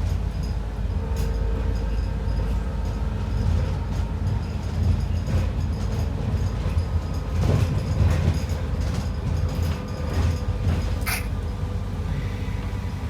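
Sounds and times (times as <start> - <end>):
bus body rattling: 0.0 - 12.1
bus interior rumble: 0.0 - 13.0.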